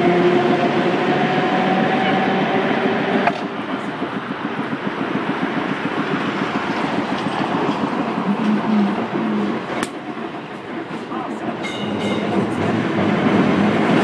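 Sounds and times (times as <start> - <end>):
streetcar wheels rattling on rail: 0.0 - 14.0.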